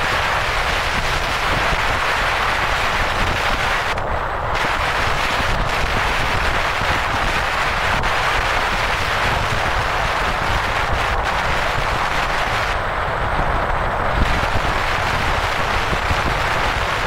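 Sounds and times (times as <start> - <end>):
low engine rumble: 0.0 - 17.0
wind and road noise: 0.0 - 17.0.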